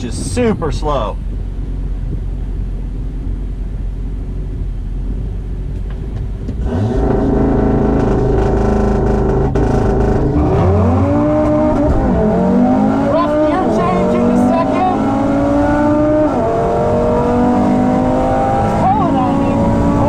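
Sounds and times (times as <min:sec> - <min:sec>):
car engine revving: 0:01.2 - 0:20.0.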